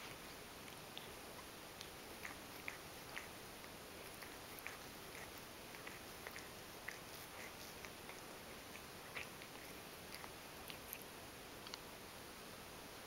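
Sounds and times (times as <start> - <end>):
cat licking and nibbling paw: 0.0 - 12.0.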